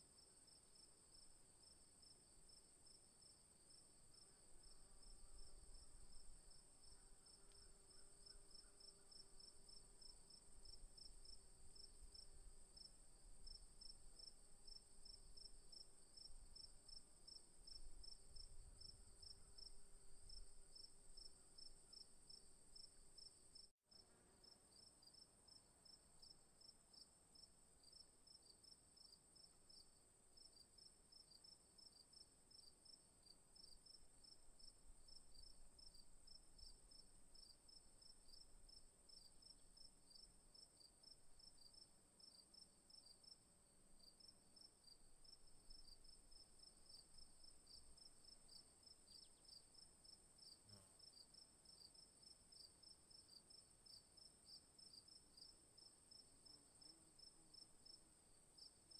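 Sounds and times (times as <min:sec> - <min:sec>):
crickets chirping: 0:00.4 - 0:23.7, 0:27.4 - 0:58.8.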